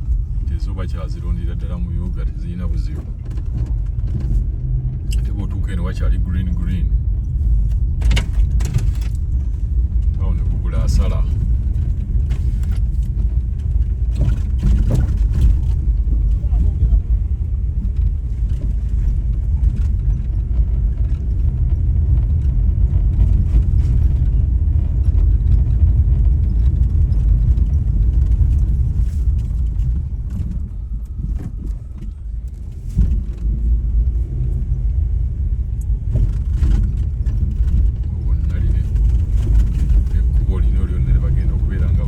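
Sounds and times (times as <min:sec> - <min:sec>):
vehicle road rumble: 0:00.0 - 0:42.0
wind noise: 0:00.0 - 0:42.0.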